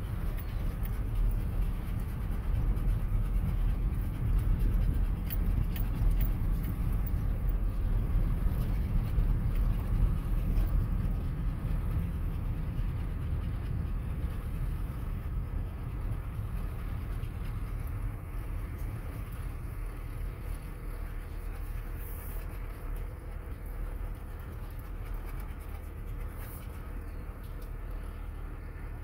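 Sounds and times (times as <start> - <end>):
truck road rumble: 0.0 - 29.0.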